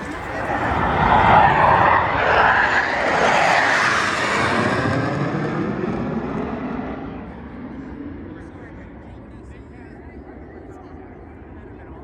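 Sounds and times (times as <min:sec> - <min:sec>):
jet roaring overhead: 0:00.0 - 0:12.0.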